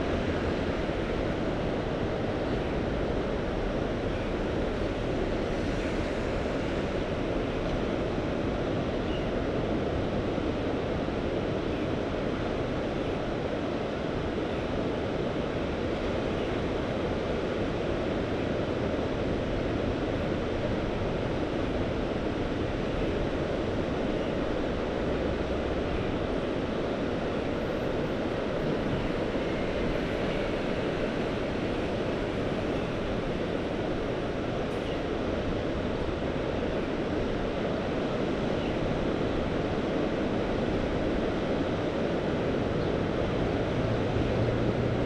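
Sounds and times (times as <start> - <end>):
sea surf and wind rushing: 0.0 - 45.0.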